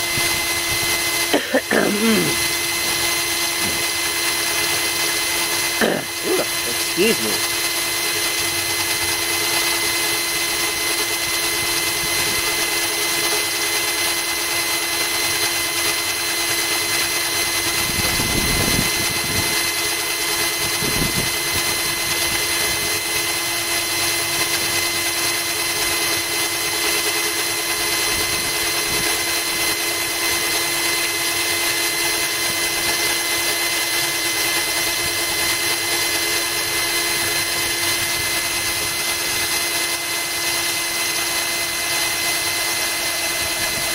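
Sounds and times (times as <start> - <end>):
drill bit grinding into glass: 0.0 - 43.9.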